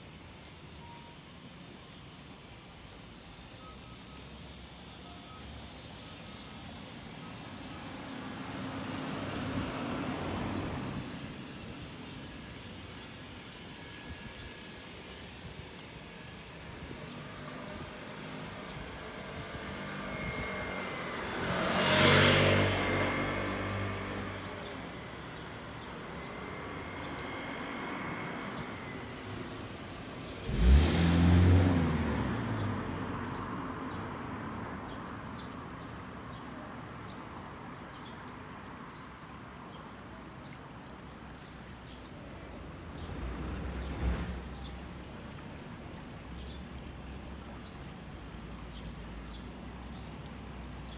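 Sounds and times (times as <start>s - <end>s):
cars passing close by: 6.8s - 50.9s.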